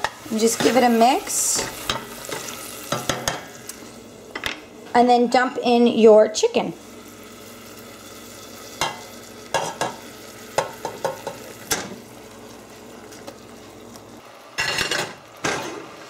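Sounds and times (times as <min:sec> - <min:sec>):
chicken sizzling in oil: 0:00.0 - 0:04.4, 0:06.8 - 0:16.0.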